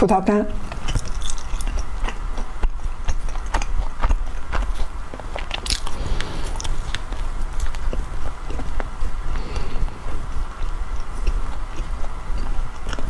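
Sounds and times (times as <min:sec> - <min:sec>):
biting and chewing bread: 0:00.6 - 0:13.0
mouth clicks and smacks: 0:00.6 - 0:13.0.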